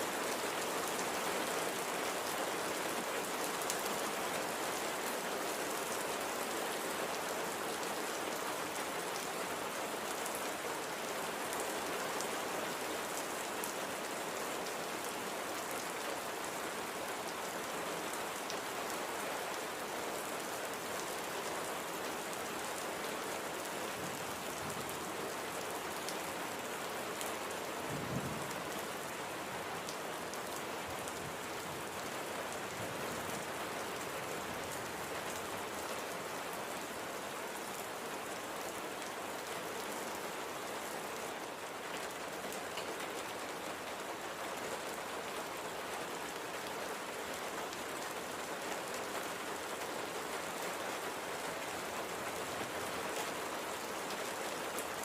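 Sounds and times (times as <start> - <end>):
rain drops ticking on a surface: 0.0 - 55.0.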